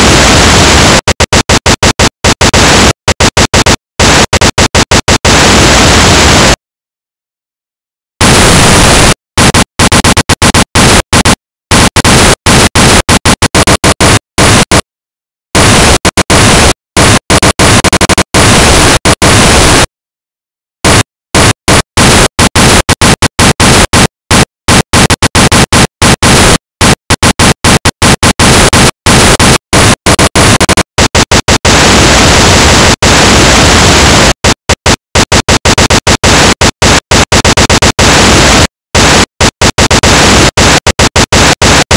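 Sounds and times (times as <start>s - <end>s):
stuttering white noise: 0.0s - 6.6s, 8.2s - 14.9s, 15.6s - 19.9s, 20.8s - 41.9s.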